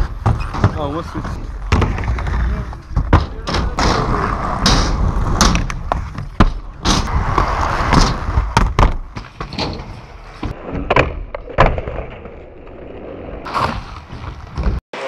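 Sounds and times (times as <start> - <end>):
skates clacking on ramps: 0.0 - 12.4
skate wheels rolling on ramps: 0.0 - 15.0.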